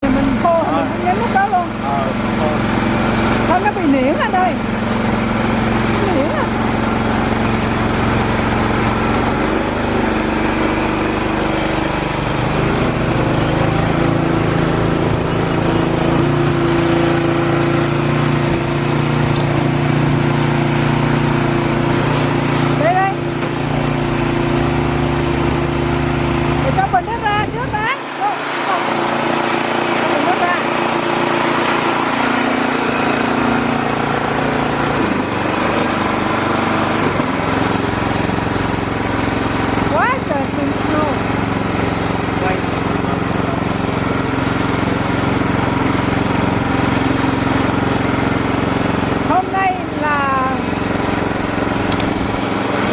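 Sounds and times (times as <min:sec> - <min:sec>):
snowblower engine running: 0:00.0 - 0:52.9.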